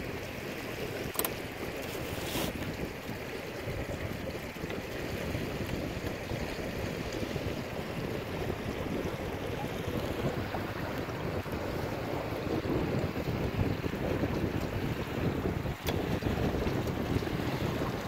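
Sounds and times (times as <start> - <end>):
water washing along hulls: 0.0 - 18.0
wind buffeting microphone: 0.0 - 18.0.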